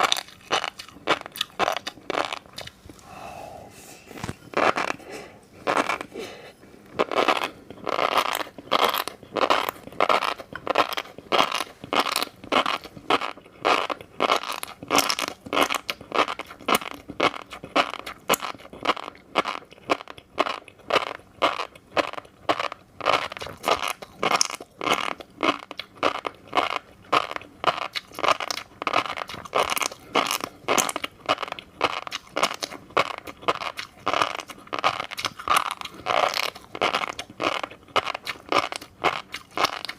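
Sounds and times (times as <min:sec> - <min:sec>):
chewing crunchy fish roe: 0:00.0 - 0:03.2, 0:04.1 - 0:39.9.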